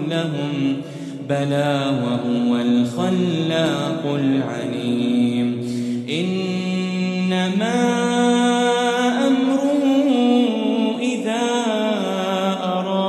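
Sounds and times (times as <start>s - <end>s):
man chanting melodic recitation: 0.0s - 13.0s.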